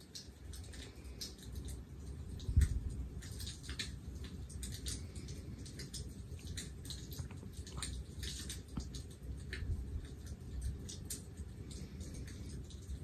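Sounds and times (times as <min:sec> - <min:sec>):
log fire crackling and popping: 0:00.0 - 0:13.0.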